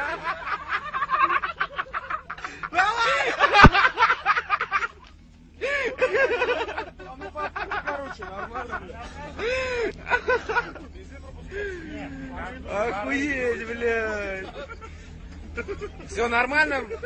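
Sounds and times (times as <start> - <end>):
men laughing and snickering: 0.0 - 17.0.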